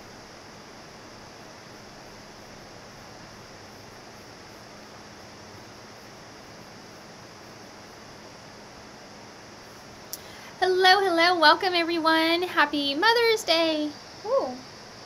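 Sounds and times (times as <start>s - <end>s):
faint low hum: 0.0s - 15.0s
steady background hiss: 0.0s - 15.0s.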